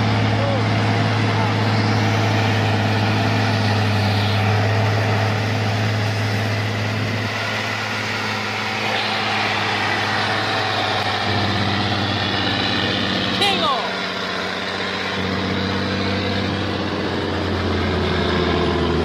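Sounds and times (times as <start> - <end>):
heavy truck engine driving past: 0.0 - 19.0.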